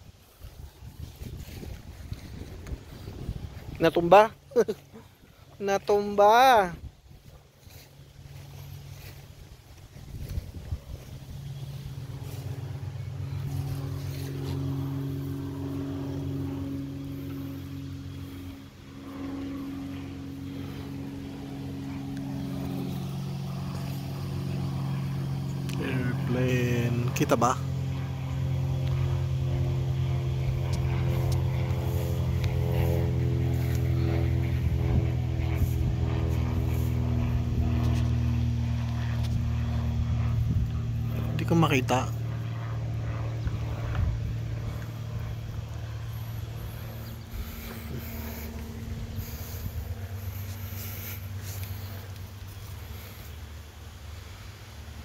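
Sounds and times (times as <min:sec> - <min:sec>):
engine droning: 0:00.0 - 0:55.0.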